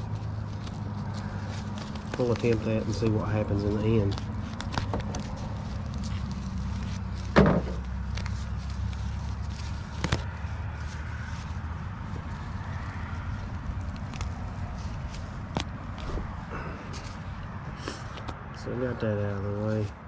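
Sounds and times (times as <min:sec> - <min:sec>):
shears clicking: 0:00.0 - 0:17.3.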